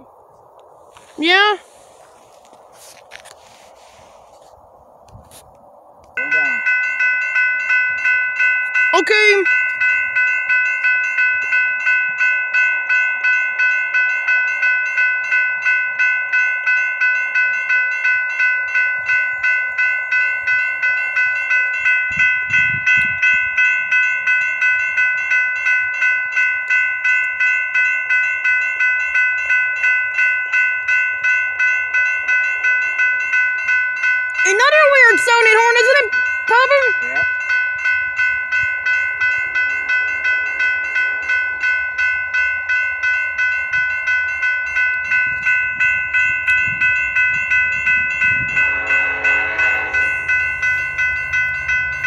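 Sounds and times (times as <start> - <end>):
railroad crossing bell ringing: 0.9 - 4.5, 6.1 - 52.0.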